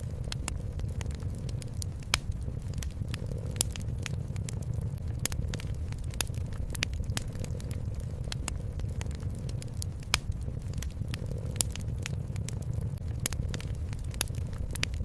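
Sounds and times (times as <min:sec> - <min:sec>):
low rumble: 0:00.0 - 0:15.0
wood fire crackling: 0:00.0 - 0:15.0.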